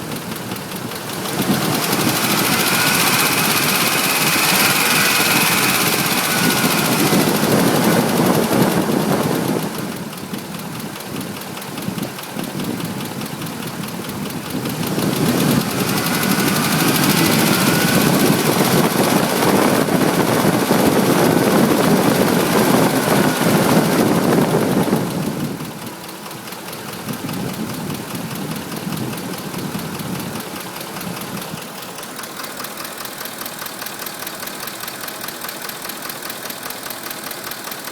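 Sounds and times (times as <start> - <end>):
engine with tapping knock: 0.0 - 37.9.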